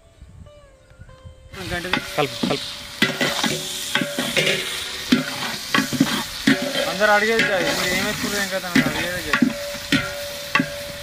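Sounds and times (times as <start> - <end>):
onions sizzling in hot oil: 1.5 - 11.0
metal ladle scraping pot: 1.6 - 11.0.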